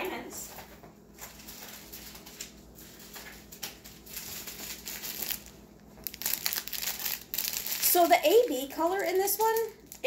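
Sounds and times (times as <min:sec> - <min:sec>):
plastic packaging crinkling: 0:00.5 - 0:10.0.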